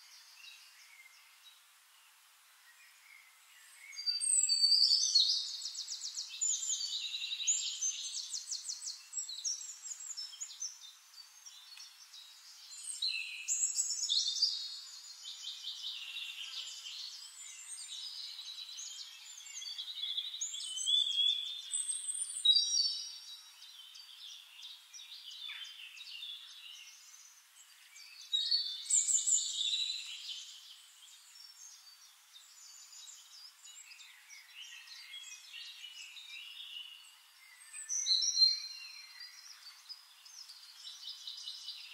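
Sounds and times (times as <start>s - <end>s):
small birds chirping and trilling: 0.0s - 41.9s.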